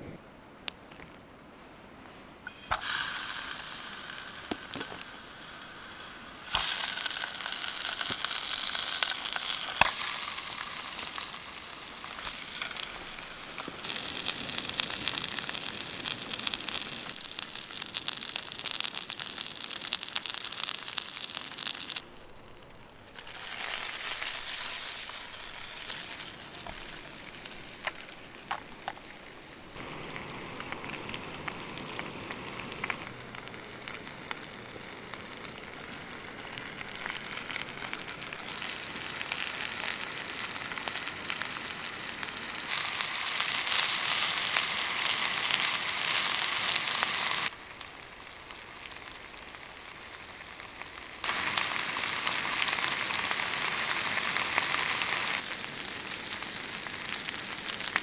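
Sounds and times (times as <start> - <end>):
sausages sizzling in oil: 2.5 - 58.0.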